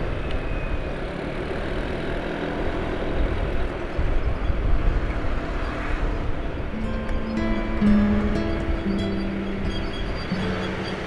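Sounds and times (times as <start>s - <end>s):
road noise in slow traffic: 0.0s - 11.0s.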